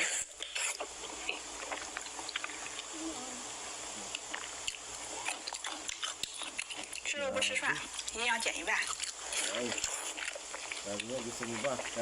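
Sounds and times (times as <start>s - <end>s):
wet chewing and smacking: 0.0s - 2.9s, 4.1s - 12.0s.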